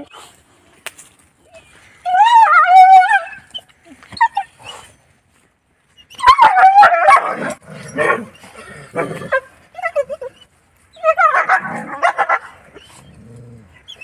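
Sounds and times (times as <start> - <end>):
dogs yelping and crying: 1.6 - 5.0, 6.0 - 14.0.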